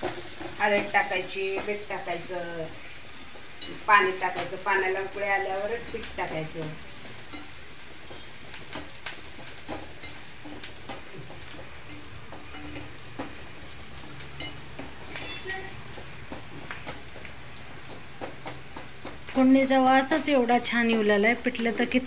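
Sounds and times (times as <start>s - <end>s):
food sizzling in oil: 0.0s - 22.0s
oil popping and crackling: 0.0s - 22.0s.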